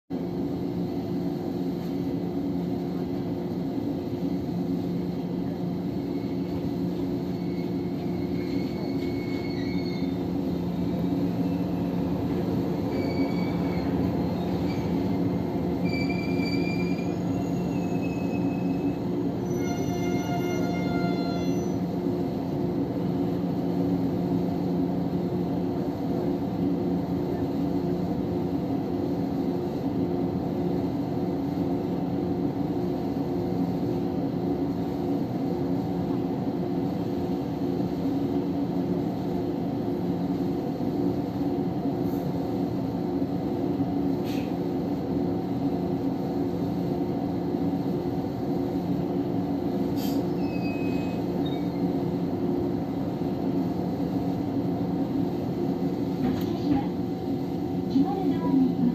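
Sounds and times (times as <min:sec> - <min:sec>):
electric train hum: 0:00.1 - 0:58.9.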